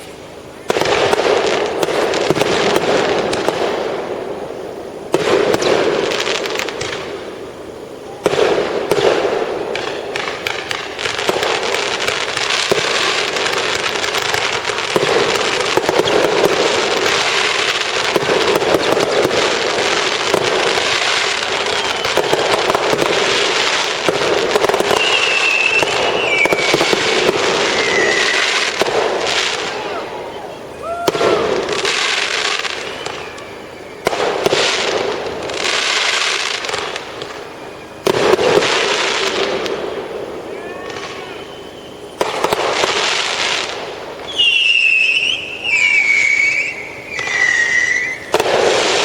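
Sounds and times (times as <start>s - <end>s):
fireworks bangs and crackling: 0.0s - 49.0s
high firework whistle: 0.0s - 49.0s.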